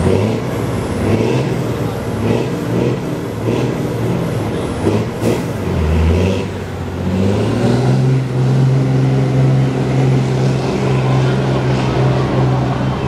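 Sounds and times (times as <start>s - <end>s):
diesel truck engines revving: 0.0s - 13.0s.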